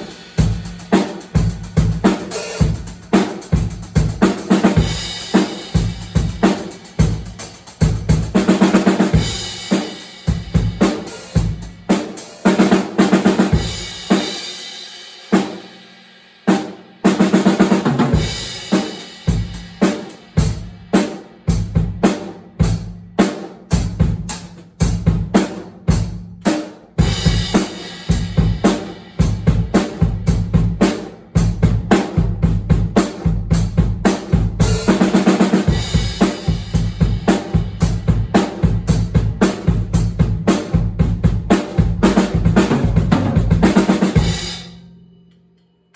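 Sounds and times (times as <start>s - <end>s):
drum kit playing a steady beat: 0.0s - 44.9s.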